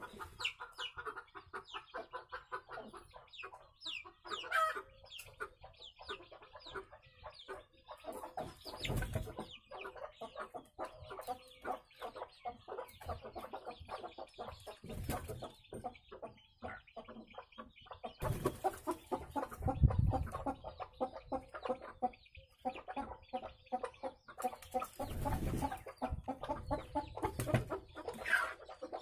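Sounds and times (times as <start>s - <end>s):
chicks peeping: 0.0s - 29.0s
hens clucking: 0.0s - 29.0s.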